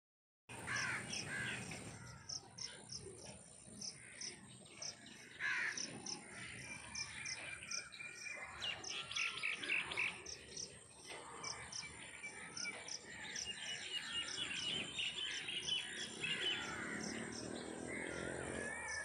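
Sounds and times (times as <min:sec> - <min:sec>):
bird calls: 0:00.5 - 0:19.0.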